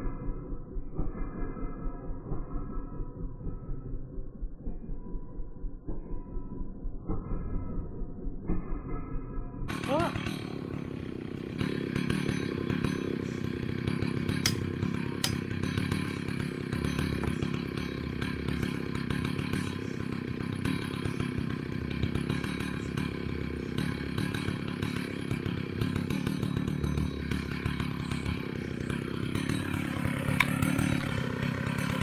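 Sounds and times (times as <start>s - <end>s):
two-stroke chainsaw running: 0.0s - 4.0s, 9.7s - 32.0s.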